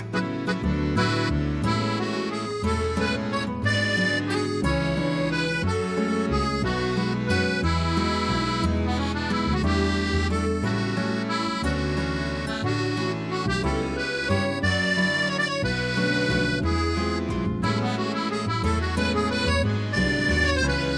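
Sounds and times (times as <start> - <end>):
instrumental background music: 0.0 - 20.9.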